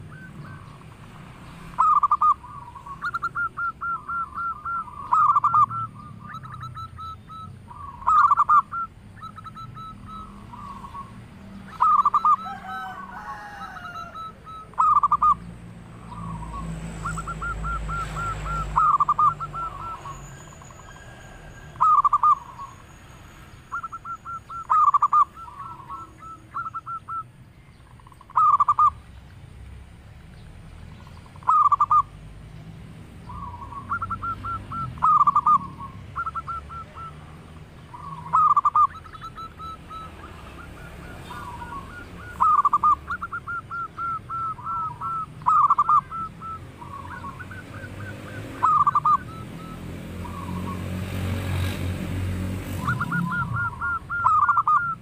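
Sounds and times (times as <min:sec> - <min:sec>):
dove cooing: 0:00.0 - 0:22.8, 0:23.7 - 0:27.3, 0:28.0 - 0:29.0, 0:31.0 - 0:32.2, 0:33.2 - 0:55.0.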